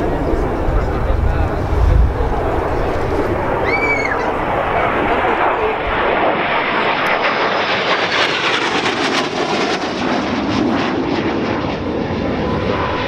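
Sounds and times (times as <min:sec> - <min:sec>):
jet engine roar in flight: 0:00.0 - 0:13.0.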